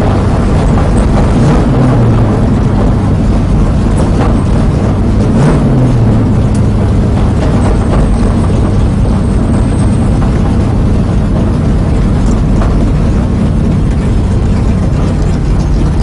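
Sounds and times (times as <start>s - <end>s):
car engine running at low speed: 0.0s - 16.0s.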